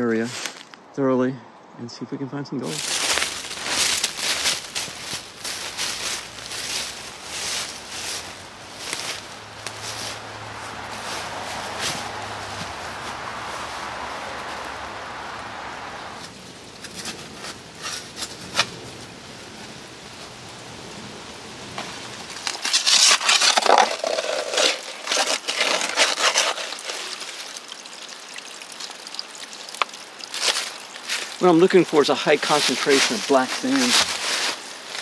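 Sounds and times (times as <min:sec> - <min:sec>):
dry leaves crunching underfoot: 0:00.2 - 0:00.8, 0:02.6 - 0:20.6, 0:21.7 - 0:35.0.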